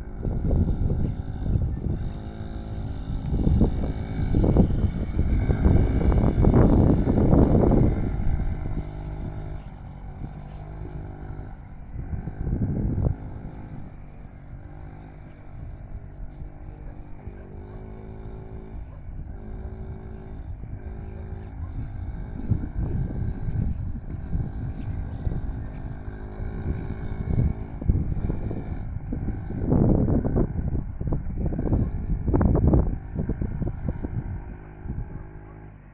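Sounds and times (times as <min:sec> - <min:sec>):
two-stroke minibike engine revving: 0:00.0 - 0:35.9.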